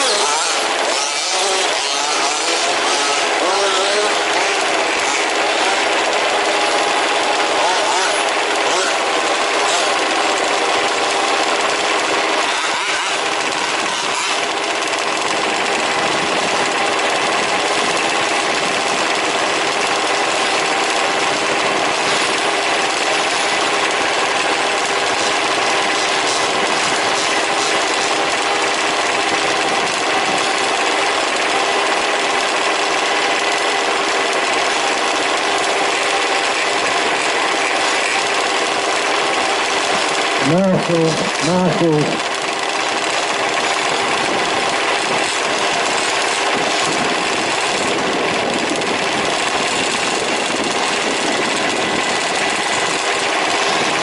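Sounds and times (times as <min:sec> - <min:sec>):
rc truck engines buzzing: 0:00.0 - 0:54.0.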